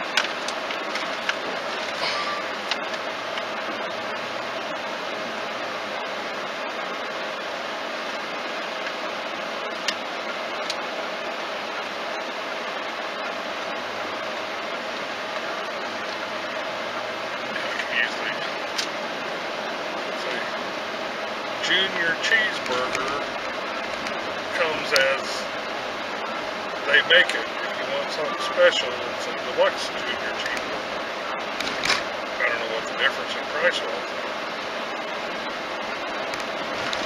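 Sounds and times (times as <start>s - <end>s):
car cabin noise: 0.0s - 37.0s.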